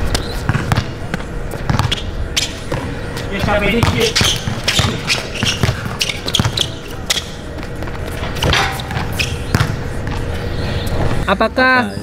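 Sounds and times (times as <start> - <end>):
basketball bouncing on hard court: 0.5 - 10.2.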